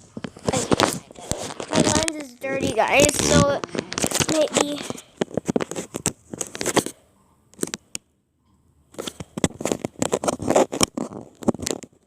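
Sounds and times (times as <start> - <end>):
fingers rubbing and clicking on camera: 0.2 - 7.0, 8.9 - 12.0.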